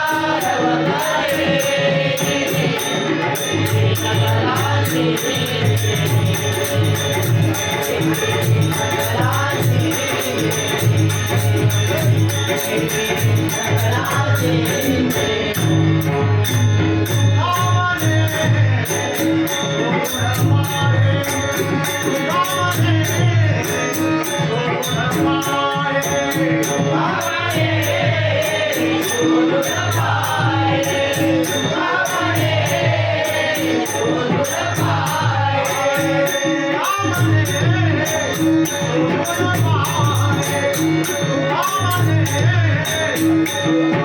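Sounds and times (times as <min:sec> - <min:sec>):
lead singer and chorus singing: 0:00.0 - 0:44.0.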